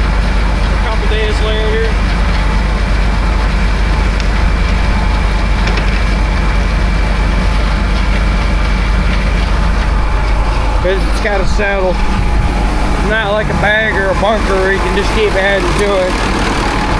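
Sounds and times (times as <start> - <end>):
heavy machinery engine drone: 0.0 - 16.9
thin steady whine: 0.0 - 16.9.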